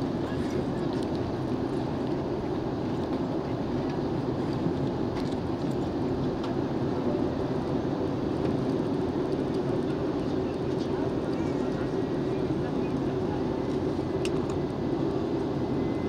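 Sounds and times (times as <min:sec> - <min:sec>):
airplane cabin roar: 0:00.0 - 0:16.0.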